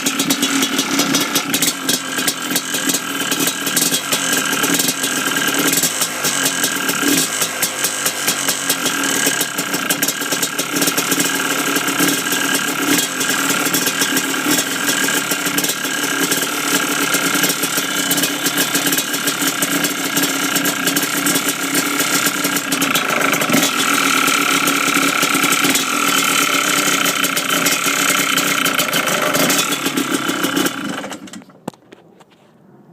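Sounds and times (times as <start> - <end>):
two-stroke engine rattling knock: 0.0 - 31.8.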